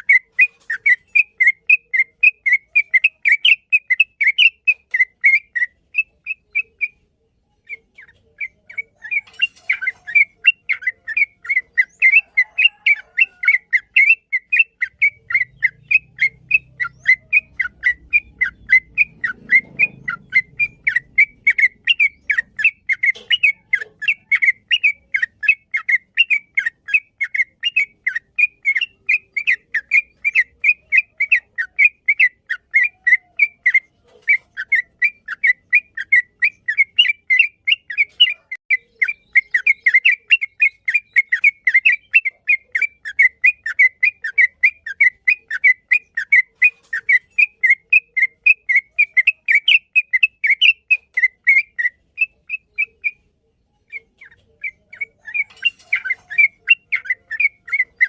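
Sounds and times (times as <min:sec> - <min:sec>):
bird singing chirping notes: 0:00.0 - 0:58.0.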